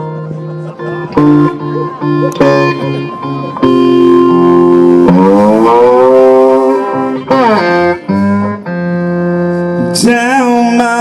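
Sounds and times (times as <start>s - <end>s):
blues rock band playing: 0.0s - 11.0s
electric guitar chords: 0.0s - 11.0s.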